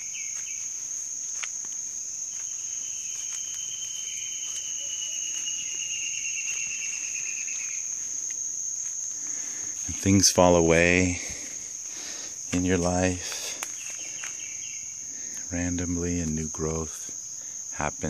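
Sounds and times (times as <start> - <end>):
high-pitched insect buzz: 0.0 - 18.0
insect trill: 0.0 - 18.0.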